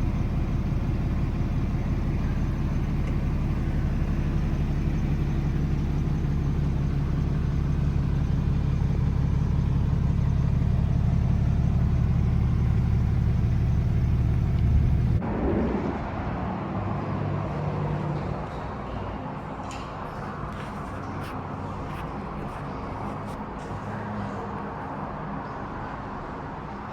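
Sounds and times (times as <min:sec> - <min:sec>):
diesel truck engine rumbling: 0:00.0 - 0:25.1.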